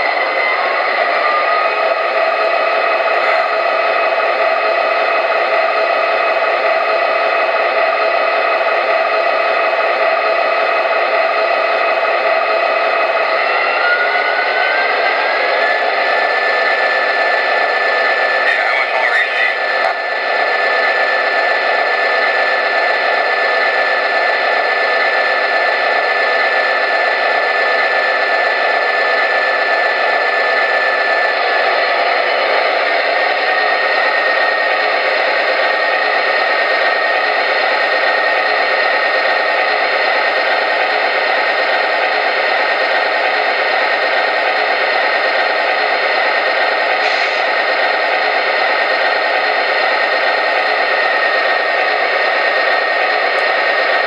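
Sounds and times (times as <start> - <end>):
model train diesel engine drone: 0.0 - 54.0
model train track noise: 0.0 - 54.0.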